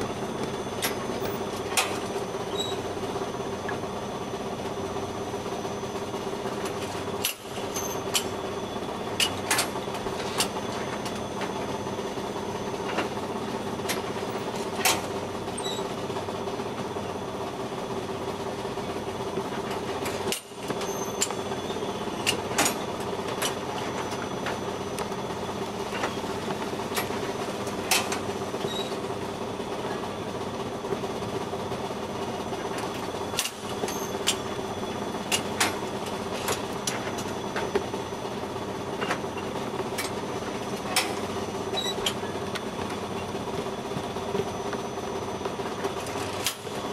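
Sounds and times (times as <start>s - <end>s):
machine humming: 0.0s - 46.9s.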